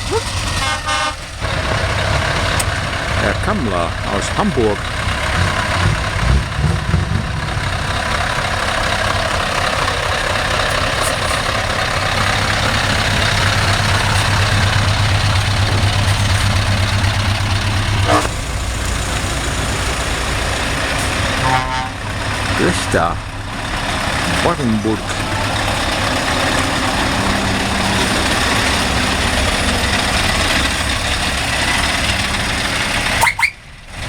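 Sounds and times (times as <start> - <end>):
diesel truck engines rumbling: 0.0 - 34.0
road noise: 0.0 - 34.0.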